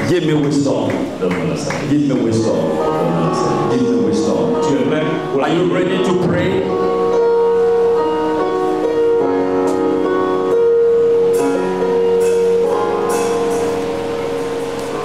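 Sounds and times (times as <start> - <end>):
soft instrumental worship music: 0.0 - 15.0.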